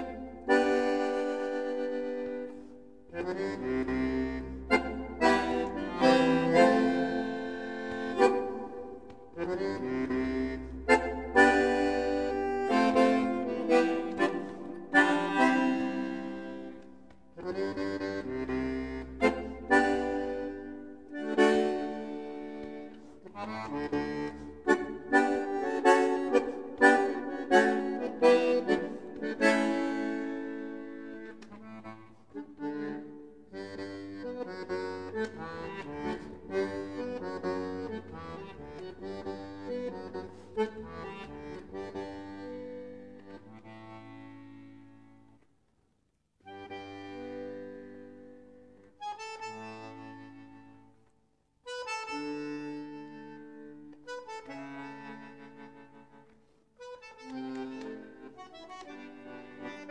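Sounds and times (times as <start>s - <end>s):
bandoneon playing chords: 0.0s - 45.3s, 46.4s - 50.9s, 51.7s - 59.9s.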